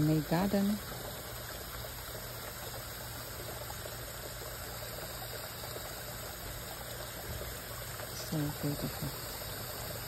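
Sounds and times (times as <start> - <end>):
constant low hum: 0.0 - 10.0
pond water trickling: 0.0 - 10.0.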